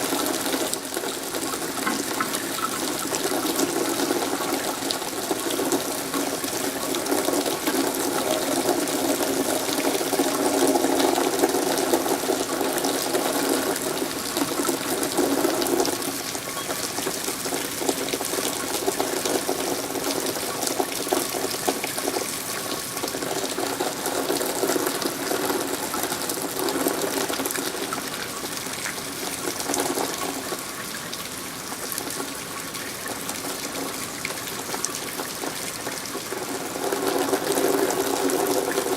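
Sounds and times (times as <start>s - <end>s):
rainwater gushing: 0.0s - 38.9s.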